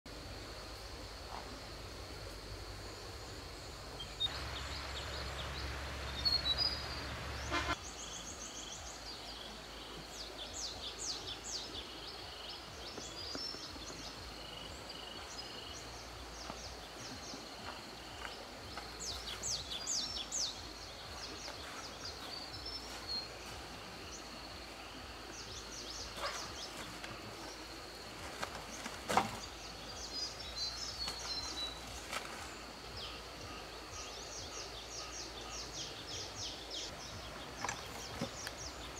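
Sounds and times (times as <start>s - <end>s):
birds chirping: 2.4s - 38.9s.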